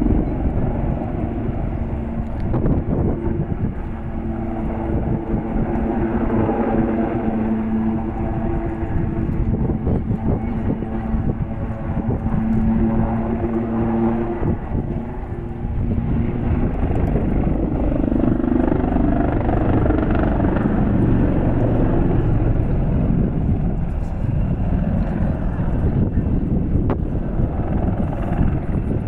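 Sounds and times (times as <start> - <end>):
helicopters droning overhead: 0.0 - 29.0.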